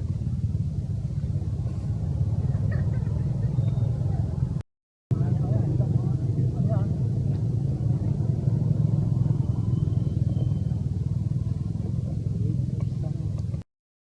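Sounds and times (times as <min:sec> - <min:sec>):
motor engine running: 0:00.0 - 0:13.6.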